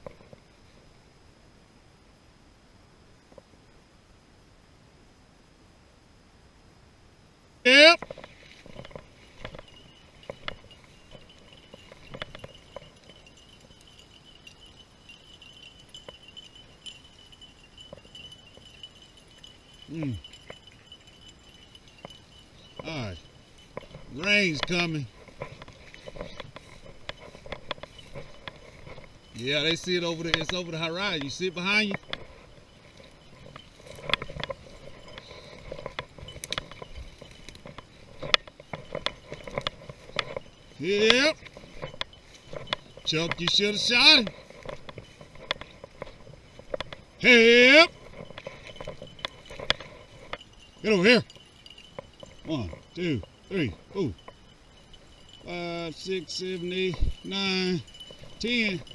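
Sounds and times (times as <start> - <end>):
high-pitched insect trill: 7.7 - 58.9
soft ticks: 8.0 - 47.3, 48.0 - 58.9
footsteps through dry grass: 8.0 - 58.9.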